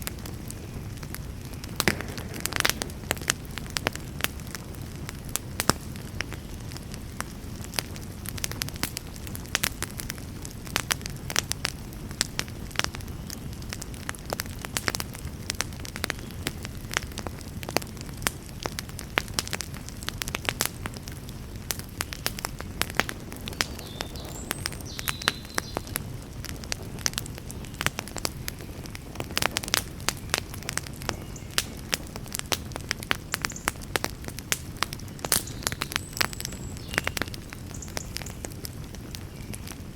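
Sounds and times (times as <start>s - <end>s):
fire crackles and pops: 0.0s - 39.9s
wood fire rumble: 0.0s - 39.9s.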